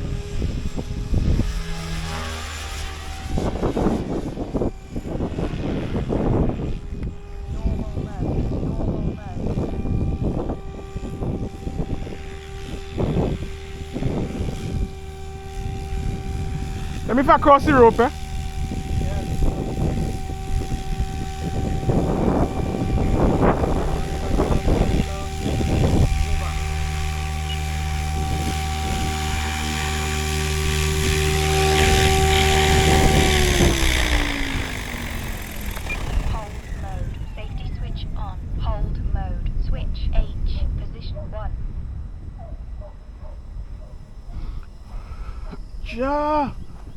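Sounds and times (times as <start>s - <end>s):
model helicopter rotor whine: 0.0s - 46.9s.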